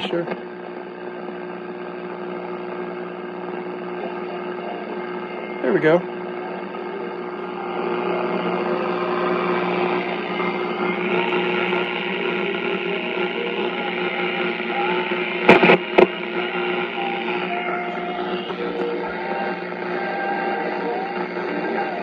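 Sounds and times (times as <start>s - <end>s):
radio static hiss: 0.0s - 22.0s
steady hum: 0.0s - 22.0s.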